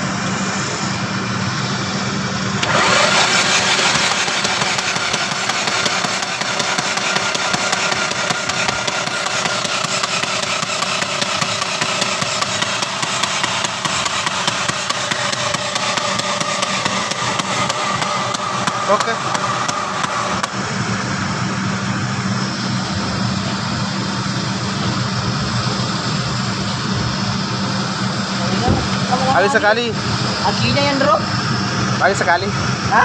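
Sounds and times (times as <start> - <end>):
engine running with even beat: 0.0 - 33.0.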